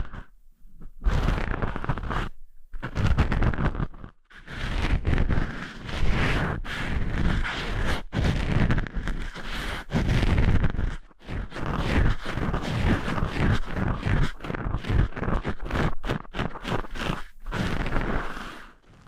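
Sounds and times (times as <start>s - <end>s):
close rubbing and scraping: 0.0s - 19.0s.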